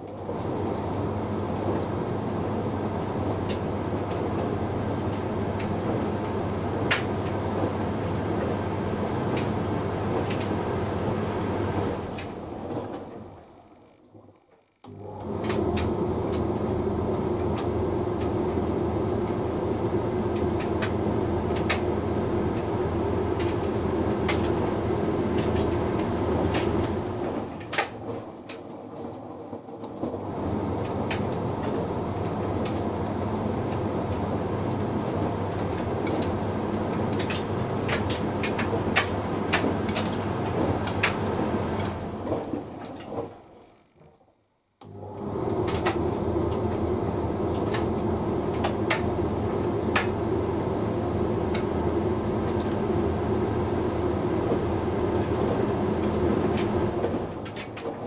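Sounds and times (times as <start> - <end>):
tumble dryer motor and fan hum: 0.0 - 43.7, 44.8 - 58.0.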